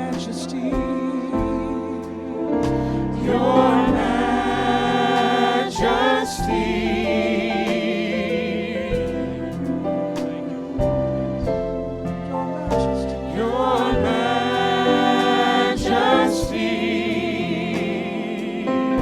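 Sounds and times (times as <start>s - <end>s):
sustained keyboard chords: 0.0s - 19.0s
voices singing gospel: 0.0s - 19.0s.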